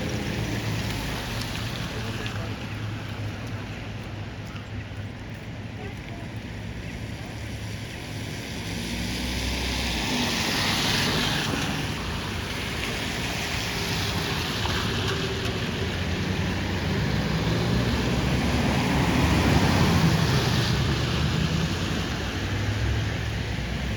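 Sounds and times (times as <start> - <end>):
vehicles passing on street: 0.0 - 23.9.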